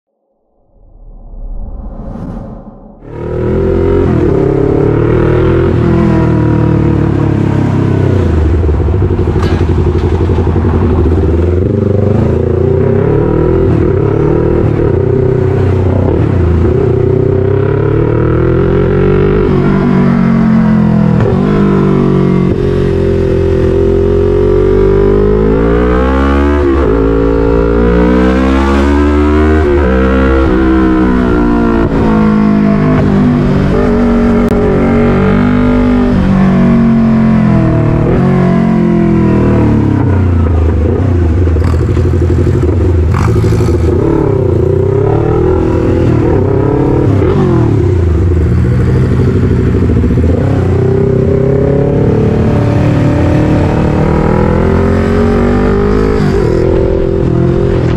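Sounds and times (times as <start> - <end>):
motorcycle engine revving: 3.0 - 57.9.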